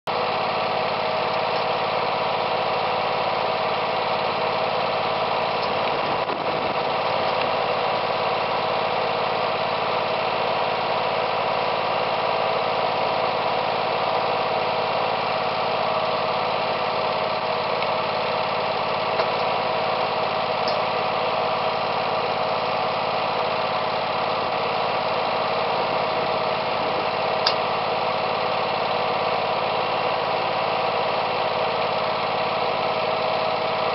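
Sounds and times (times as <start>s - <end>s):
garden tractor engine idling: 0.1s - 33.9s.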